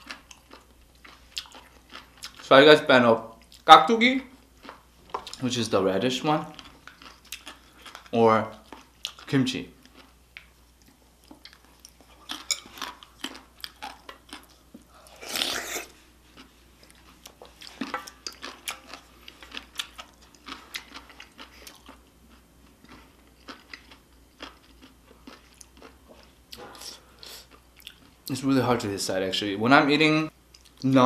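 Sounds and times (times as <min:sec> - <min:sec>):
chewing crunchy food: 0:00.0 - 0:02.5, 0:04.4 - 0:05.5, 0:06.4 - 0:28.3.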